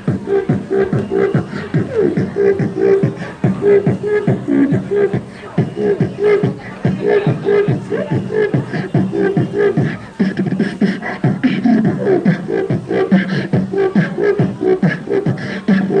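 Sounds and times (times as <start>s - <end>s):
boy beatboxing: 0.0s - 16.0s.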